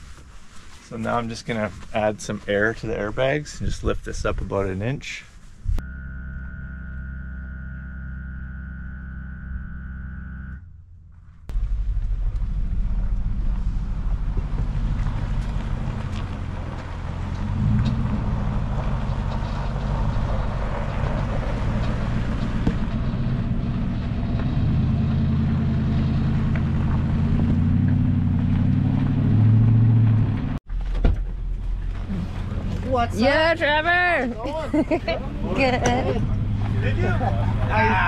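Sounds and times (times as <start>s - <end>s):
vehicle engine running: 5.8s - 30.6s, 31.3s - 38.0s.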